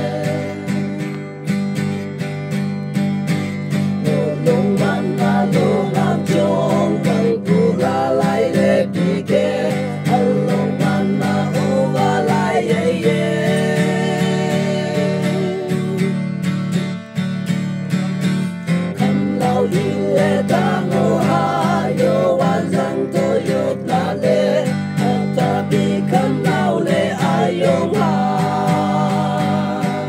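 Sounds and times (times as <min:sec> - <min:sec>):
men singing together: 0:00.0 - 0:01.0, 0:04.0 - 0:16.3, 0:18.8 - 0:30.0
strummed acoustic guitar: 0:00.0 - 0:30.0.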